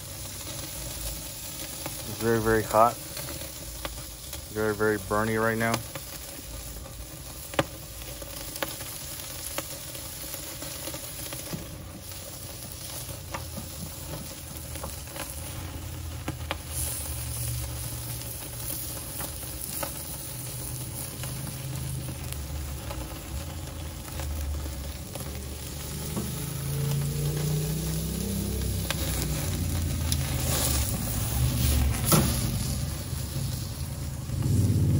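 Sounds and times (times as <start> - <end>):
crackles and pops: 0.0 - 34.9
steaks sizzling on a grill: 0.0 - 34.9.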